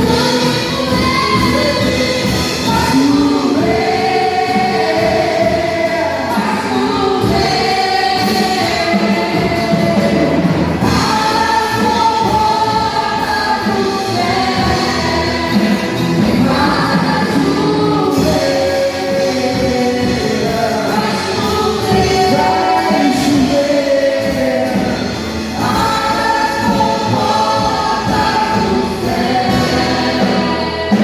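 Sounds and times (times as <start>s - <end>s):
gospel choir singing: 0.0s - 31.0s
music: 0.0s - 31.0s.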